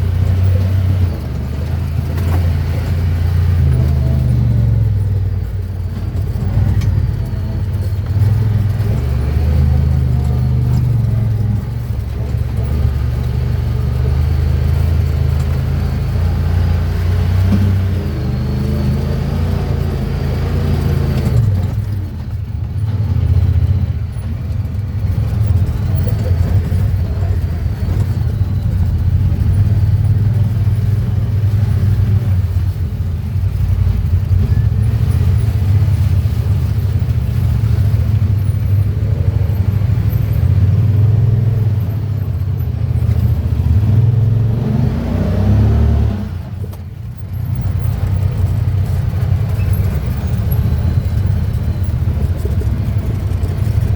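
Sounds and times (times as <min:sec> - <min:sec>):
off-road vehicle engine running: 0:00.0 - 0:53.9.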